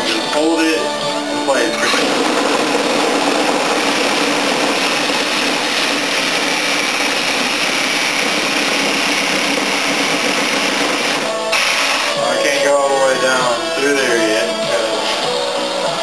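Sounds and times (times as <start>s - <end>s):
electric saw cutting metal fins: 0.0s - 16.0s.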